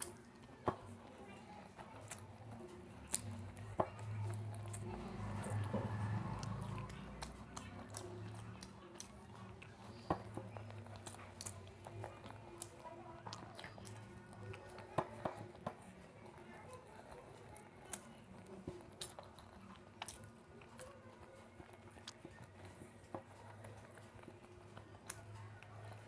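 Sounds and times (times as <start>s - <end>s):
fingers mixing rice on plate: 0.0s - 26.0s
wet chewing mouth clicks: 0.0s - 26.0s.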